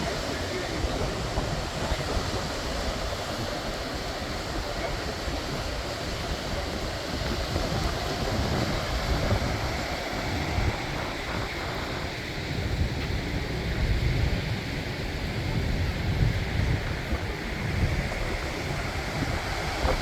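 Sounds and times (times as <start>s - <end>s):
rushing wind: 0.0s - 20.0s
wind buffeting microphone: 0.0s - 20.0s.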